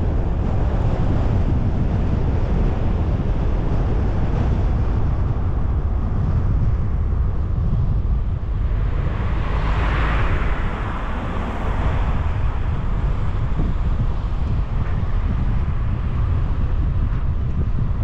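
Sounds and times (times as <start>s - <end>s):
car tyre and wind noise: 0.0s - 18.0s.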